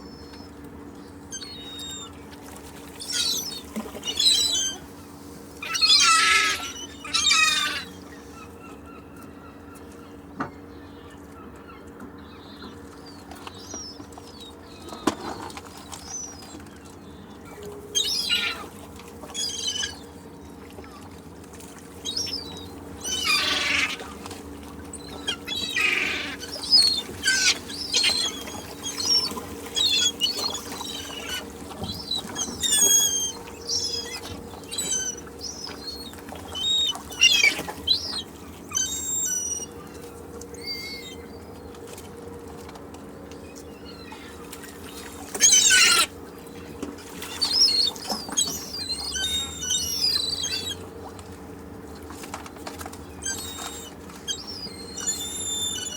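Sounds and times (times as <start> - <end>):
seagulls calling: 0.0 - 55.9.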